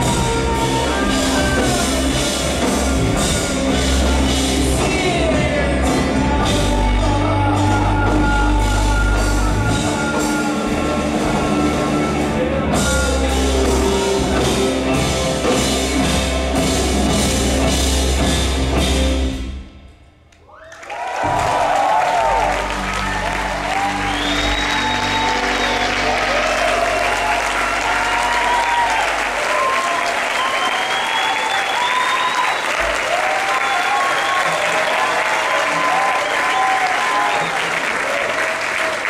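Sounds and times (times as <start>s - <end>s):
audience applause and cheering: 0.0s - 19.1s, 20.4s - 39.0s
live band playing: 0.0s - 19.8s, 22.3s - 39.0s.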